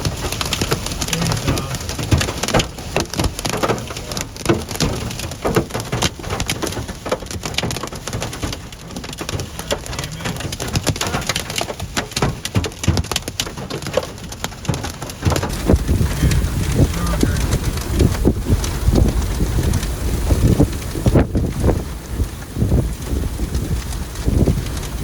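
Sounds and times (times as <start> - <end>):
hail and rain on vehicle roof: 0.0 - 25.0
low wind rumble: 0.0 - 25.0.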